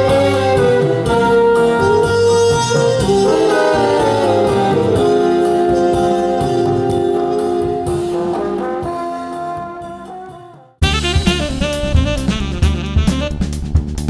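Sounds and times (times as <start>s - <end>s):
cha-cha-cha dance music: 0.0s - 13.6s.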